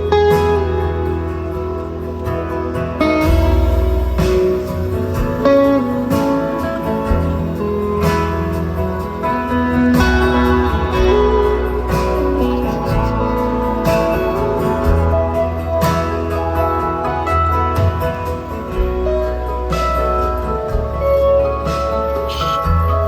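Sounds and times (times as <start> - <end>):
guitars plucked and strummed: 0.0 - 23.0
steady bass: 0.0 - 23.0.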